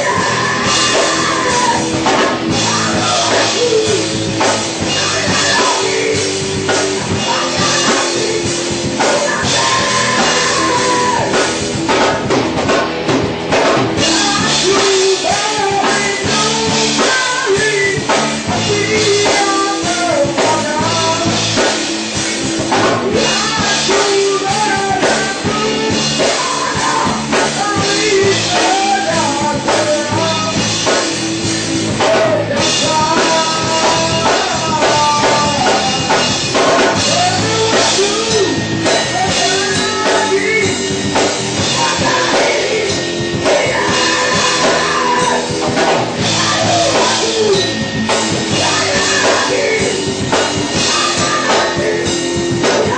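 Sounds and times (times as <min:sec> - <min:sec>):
man singing: 0:00.0 - 0:12.3, 0:14.0 - 0:21.9, 0:22.6 - 0:52.9
drum kit with cymbals: 0:00.0 - 0:52.9
electric guitars: 0:00.0 - 0:52.9.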